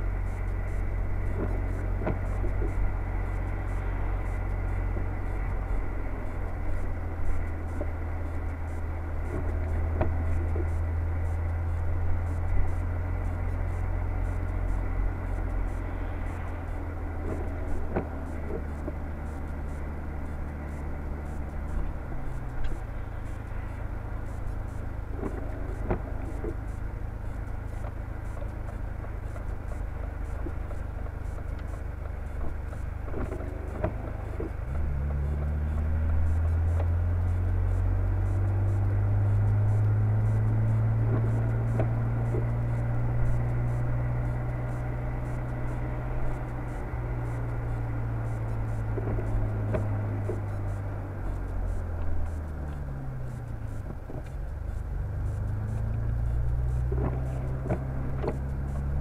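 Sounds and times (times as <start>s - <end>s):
car engine and road noise drone: 0.0s - 59.0s.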